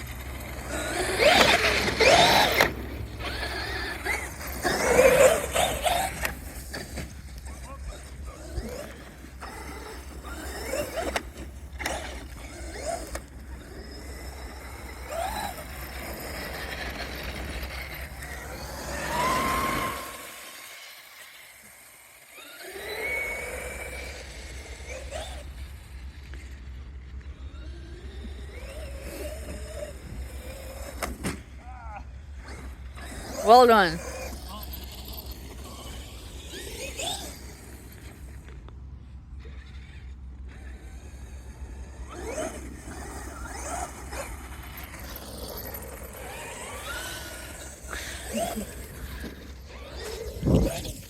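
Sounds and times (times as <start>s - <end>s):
rc car motors whining: 0.0s - 51.0s.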